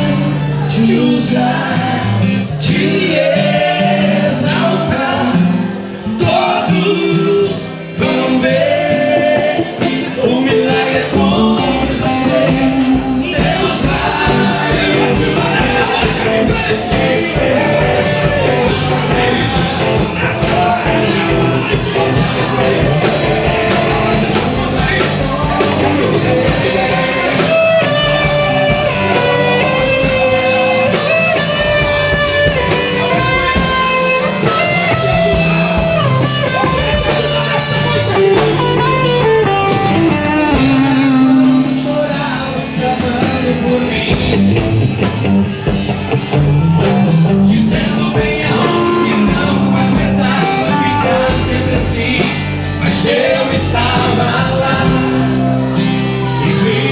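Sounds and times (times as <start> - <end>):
band playing gospel music: 0.0 - 56.9
guitar melody: 0.0 - 56.9.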